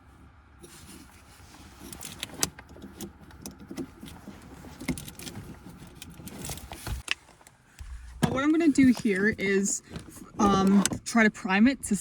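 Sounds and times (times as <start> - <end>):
objects being handled: 0.6 - 11.1
small knocks clicks and rustles: 1.5 - 11.2.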